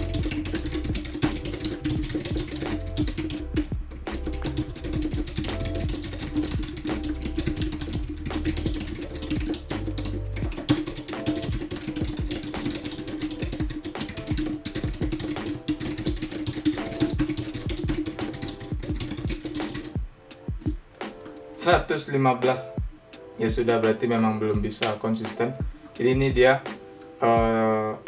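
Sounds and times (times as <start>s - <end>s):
fast typing on computer keyboard: 0.0s - 22.6s
background music: 0.0s - 28.0s.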